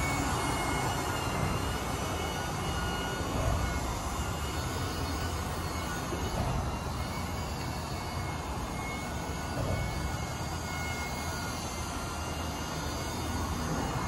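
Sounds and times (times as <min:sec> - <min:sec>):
faint high whine: 0:00.0 - 0:14.0
toy helicopter rotor whirring: 0:00.0 - 0:14.0.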